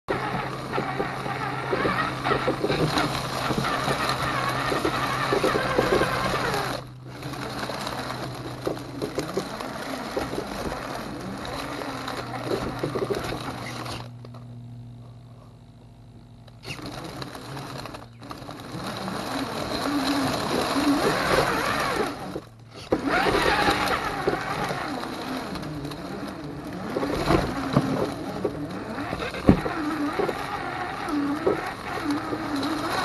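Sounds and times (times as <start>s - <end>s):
chassis rattling: 0.0s - 14.9s, 16.3s - 33.0s
electric motor and gears whirring: 0.0s - 33.0s.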